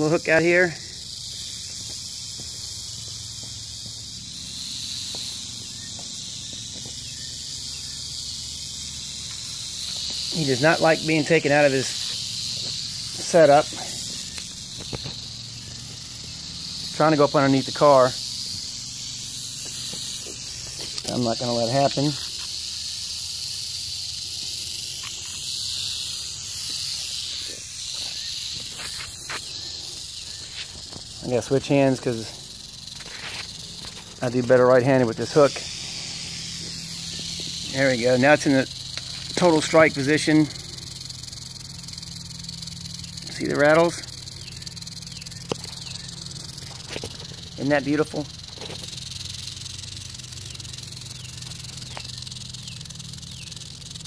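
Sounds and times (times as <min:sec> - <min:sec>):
rattlesnake rattling: 0:00.0 - 0:54.0.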